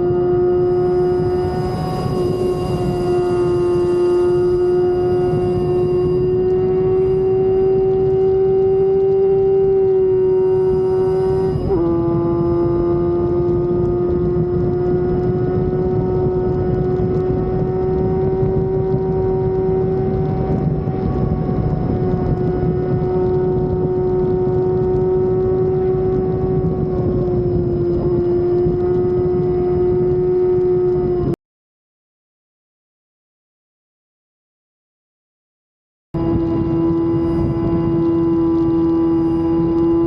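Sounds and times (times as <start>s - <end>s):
motorcycle engine high whine: 0.0s - 31.4s, 36.2s - 40.0s
road noise: 0.0s - 31.4s, 36.2s - 40.0s
rushing wind: 0.0s - 31.4s, 36.2s - 40.0s.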